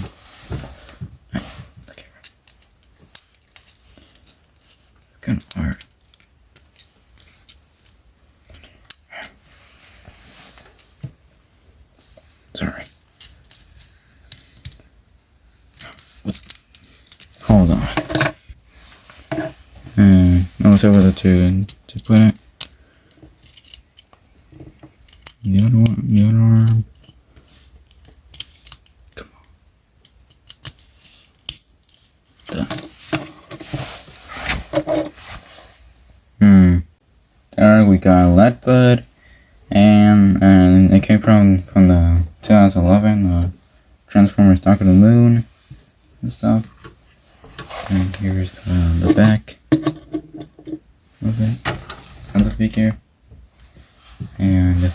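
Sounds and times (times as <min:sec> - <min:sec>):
soft hiss: 0:00.0 - 0:54.9.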